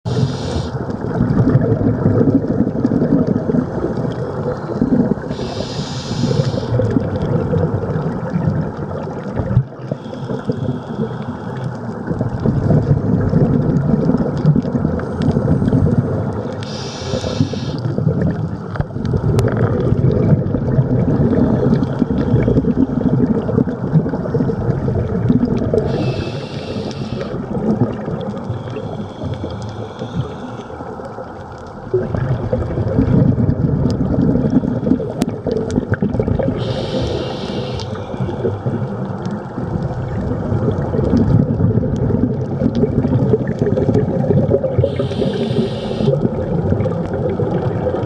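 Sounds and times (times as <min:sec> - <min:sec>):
diver exhaling bubbles: 0:00.0 - 0:48.0
underwater low rumble: 0:00.0 - 0:48.0.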